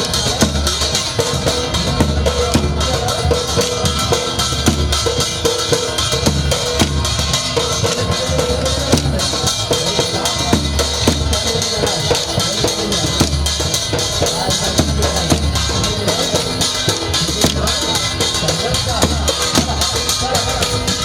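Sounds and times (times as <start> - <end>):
drums beating driving rhythm: 0.0 - 21.0.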